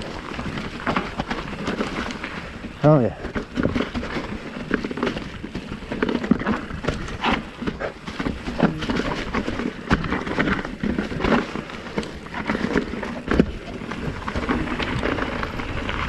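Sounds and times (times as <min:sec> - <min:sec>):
bike chain and frame rattling: 0:00.0 - 0:16.0
bike tyres hitting rocks: 0:00.0 - 0:16.0.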